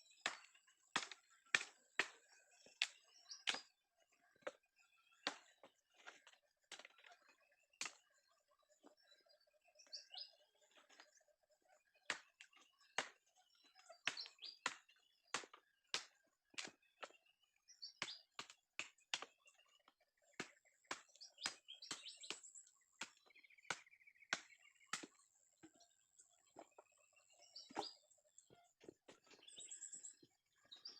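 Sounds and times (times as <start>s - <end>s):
birds chirping faintly: 0.0s - 30.9s.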